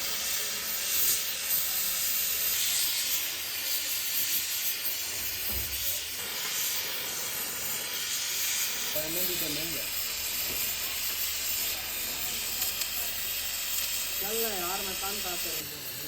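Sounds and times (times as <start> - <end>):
welding arc hissing: 0.0 - 16.0.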